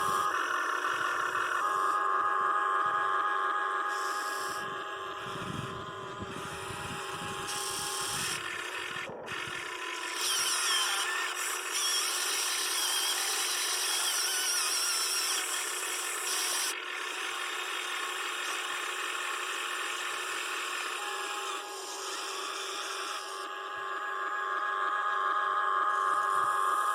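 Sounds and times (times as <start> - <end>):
toy excavator motors whining: 0.0 - 26.9.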